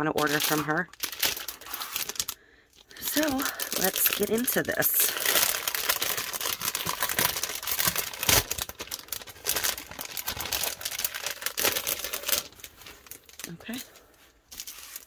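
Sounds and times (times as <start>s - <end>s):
plastic sleeve crinkling: 0.0s - 15.0s.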